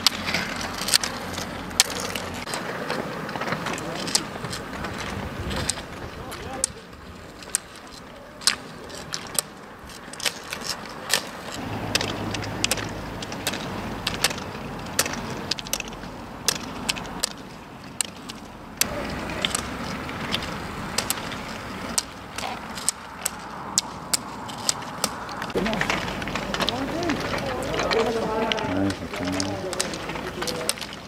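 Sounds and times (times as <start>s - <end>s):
roller skis rolling on asphalt: 0.0s - 31.0s
ski poles clicking on pavement: 0.0s - 31.0s.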